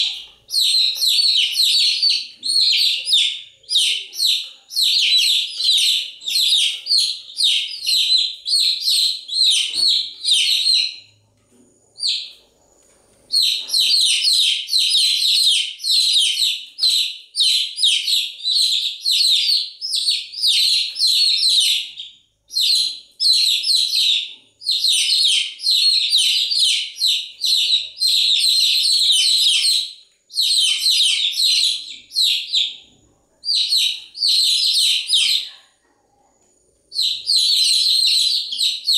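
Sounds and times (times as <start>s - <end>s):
baby chicks chirping: 0.0s - 38.9s.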